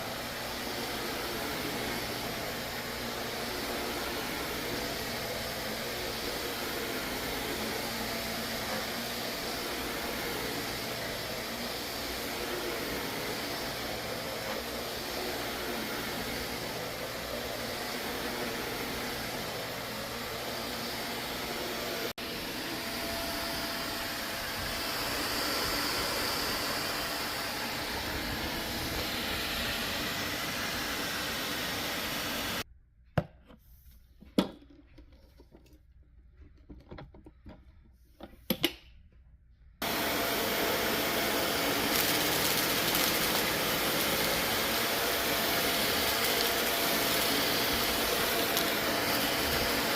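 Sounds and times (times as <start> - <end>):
vacuum cleaner running: 0.0 - 32.7, 39.8 - 49.9.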